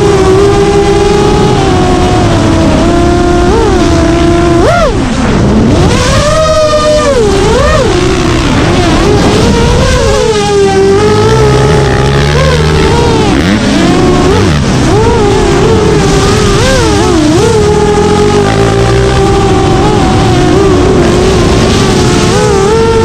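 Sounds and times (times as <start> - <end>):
drone propellers whining: 0.0 - 23.0
motocross bike engines revving: 0.0 - 23.0.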